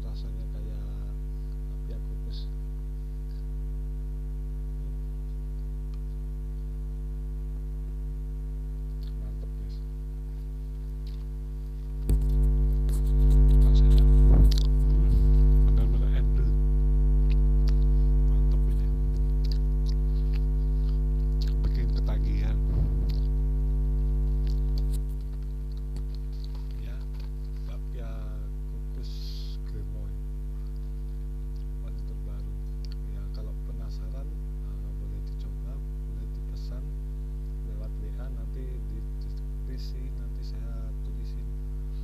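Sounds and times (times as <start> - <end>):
electrical mains hum: 0.0 - 42.0.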